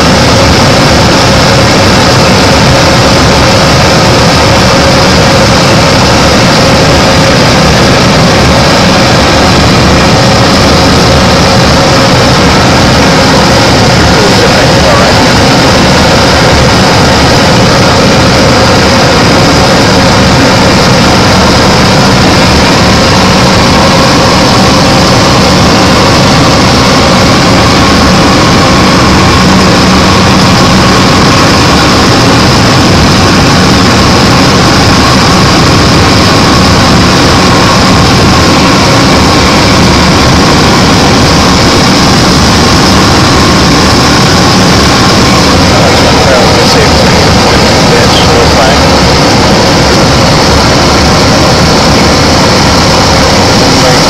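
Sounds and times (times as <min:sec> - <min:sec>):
constant rushing noise: 0:00.0 - 0:54.0
propeller aircraft engine: 0:00.0 - 0:54.0
steady tones: 0:00.0 - 0:54.0.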